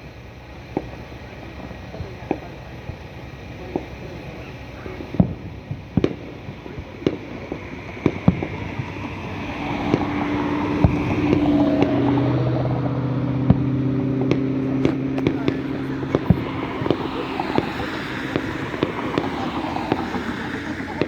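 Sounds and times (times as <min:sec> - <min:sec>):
distant fireworks bangs: 0:00.6 - 0:21.0.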